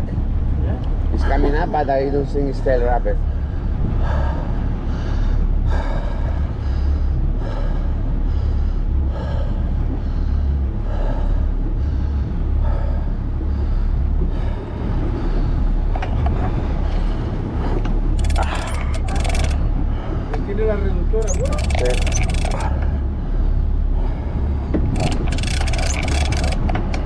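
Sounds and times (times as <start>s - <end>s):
boat engine rumble: 0.0s - 27.0s.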